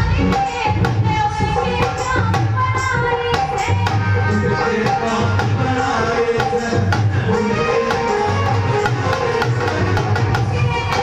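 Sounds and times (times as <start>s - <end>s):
drums: 0.0s - 11.0s.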